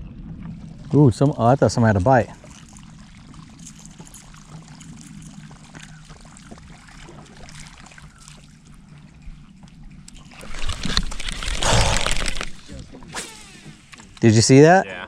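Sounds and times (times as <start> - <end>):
faint water sounds: 0.0 - 15.0.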